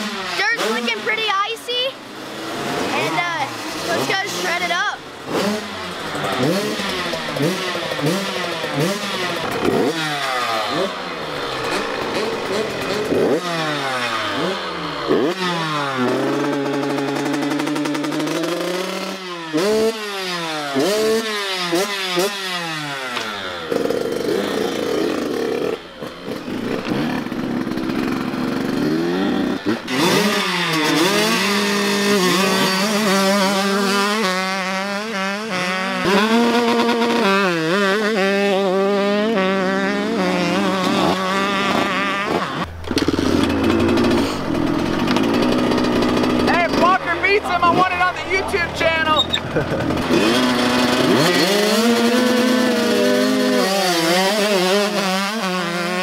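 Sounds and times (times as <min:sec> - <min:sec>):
motocross bikes revving: 0:00.0 - 0:56.0.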